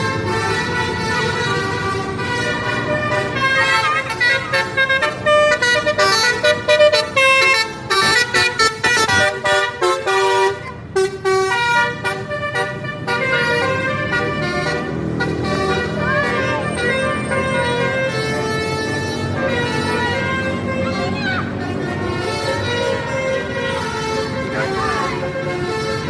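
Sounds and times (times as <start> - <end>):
musical vehicle horn playing a tune: 0.0 - 26.0.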